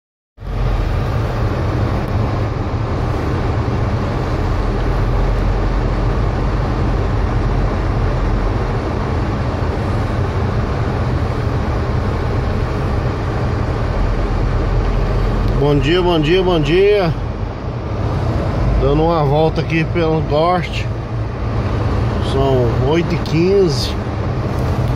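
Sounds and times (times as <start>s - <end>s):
car engine and road rumble: 0.4s - 24.9s.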